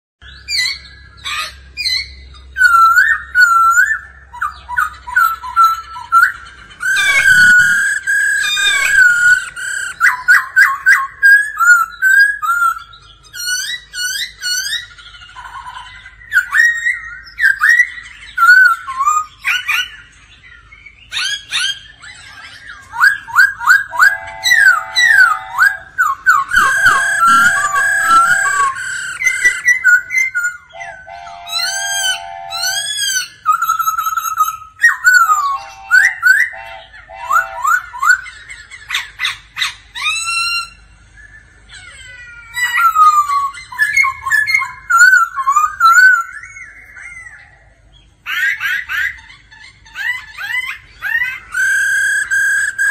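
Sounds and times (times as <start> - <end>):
bird singing whistled phrases: 0.2 - 14.9, 16.3 - 38.3, 42.6 - 47.6, 50.4 - 52.9
low buzzy bird calls: 0.2 - 52.9.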